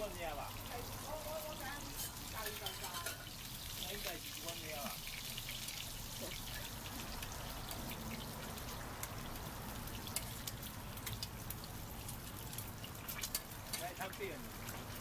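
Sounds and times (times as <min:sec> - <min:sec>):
egg crackling in oil: 0:00.0 - 0:15.0
food deep-frying in hot oil: 0:00.0 - 0:15.0.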